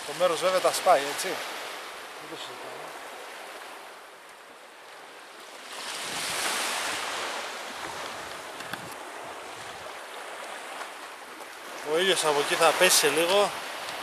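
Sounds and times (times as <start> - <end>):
wave washing onto beach: 0.0 - 14.0.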